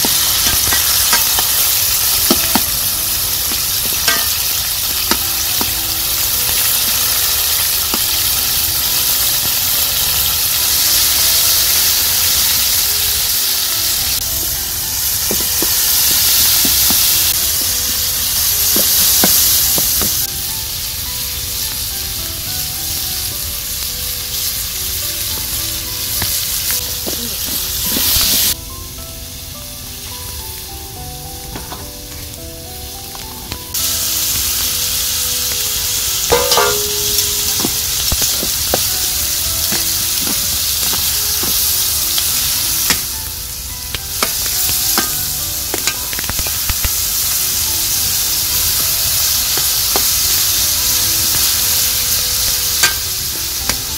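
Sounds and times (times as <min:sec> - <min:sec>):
vegetables sizzling in oil: 0:00.0 - 0:53.9.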